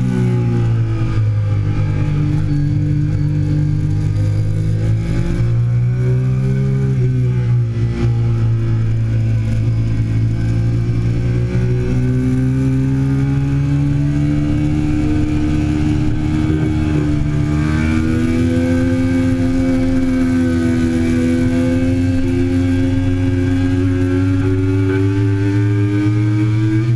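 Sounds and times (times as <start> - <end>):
motorcycle engine running hard: 0.0 - 26.9.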